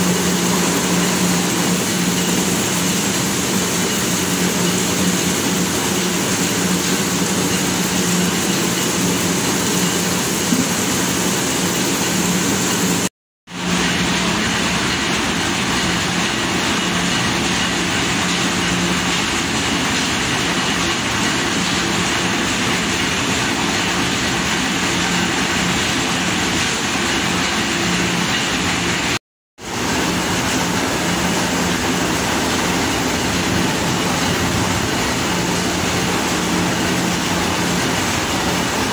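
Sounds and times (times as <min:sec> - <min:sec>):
mill machinery running: 0:00.0 - 0:38.9.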